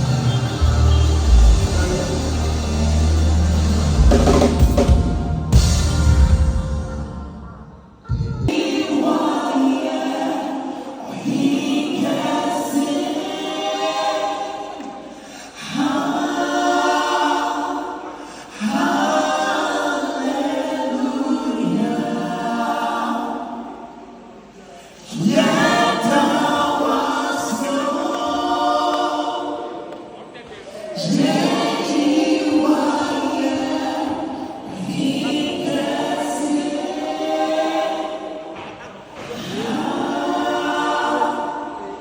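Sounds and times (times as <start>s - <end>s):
group singing gospel in harmony: 0.0s - 42.0s.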